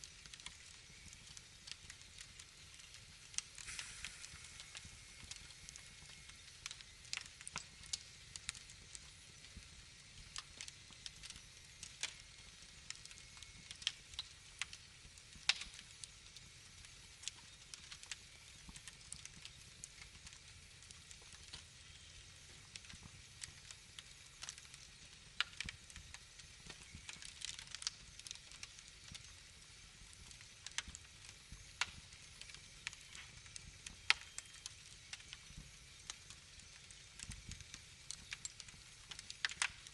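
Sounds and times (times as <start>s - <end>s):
fire hiss: 0.0s - 39.9s
wood fire crackling: 0.0s - 39.9s.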